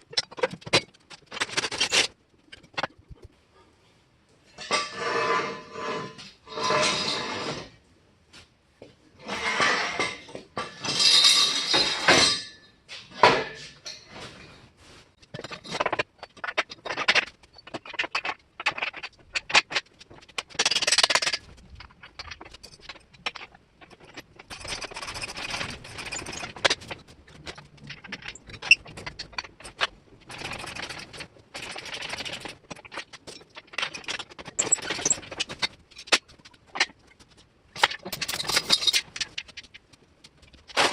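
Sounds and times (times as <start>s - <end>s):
clanks and knocks of steel parts: 0.0s - 3.2s, 4.5s - 7.3s, 9.2s - 14.5s, 15.2s - 40.9s.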